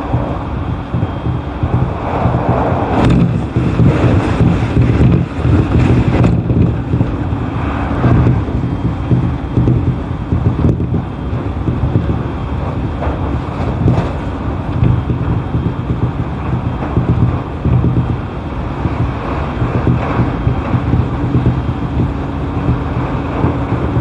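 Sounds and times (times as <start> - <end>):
train rumbling from inside: 0.0 - 24.0.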